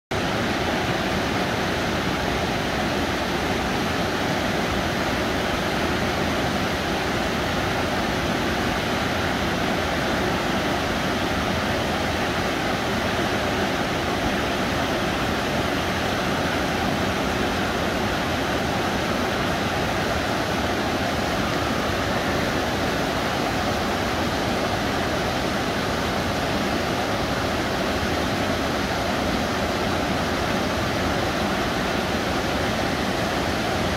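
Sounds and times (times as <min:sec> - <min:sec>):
river rushing over boulders: 0:00.1 - 0:33.9.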